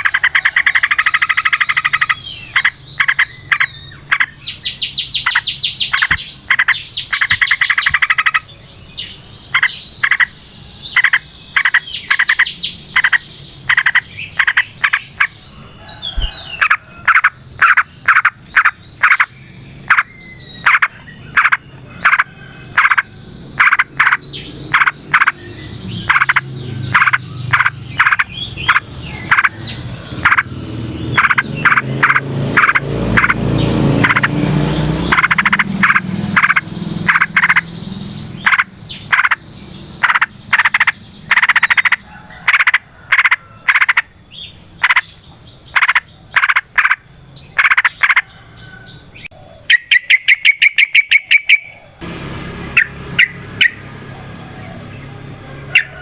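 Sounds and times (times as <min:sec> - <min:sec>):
bird calling: 0:00.0 - 0:56.0.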